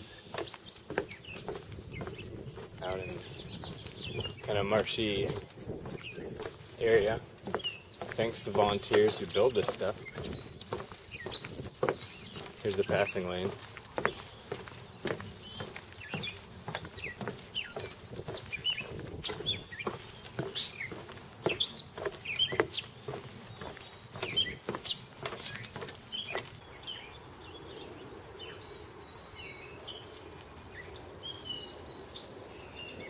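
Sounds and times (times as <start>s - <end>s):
footsteps on wooden boardwalk: 0.0s - 26.6s
small birds chirping: 0.0s - 33.0s.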